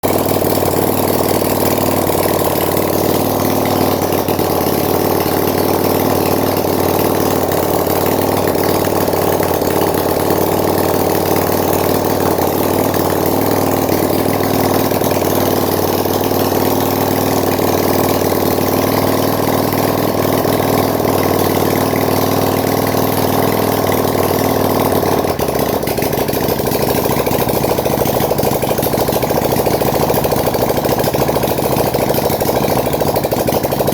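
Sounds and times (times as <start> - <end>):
twin engine idling: 0.0 - 33.9.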